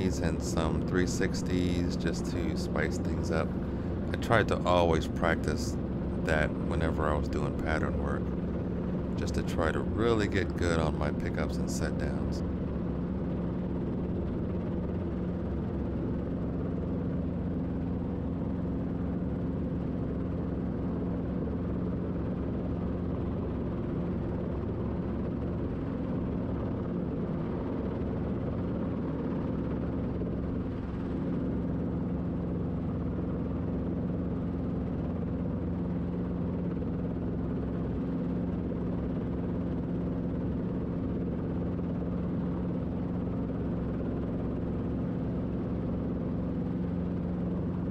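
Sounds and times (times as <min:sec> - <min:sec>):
helicopter rotor and engine drone: 0:00.0 - 0:47.9.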